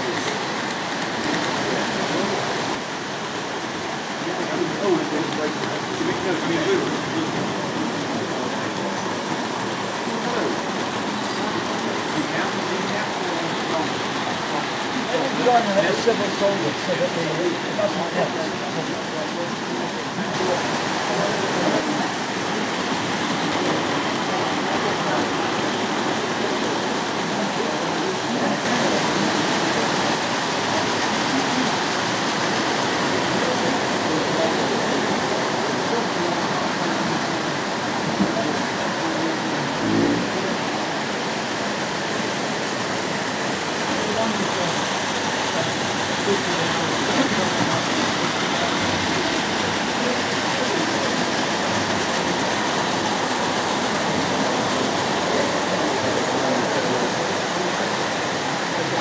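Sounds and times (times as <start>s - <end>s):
model train wheels on rails: 0.0s - 59.0s.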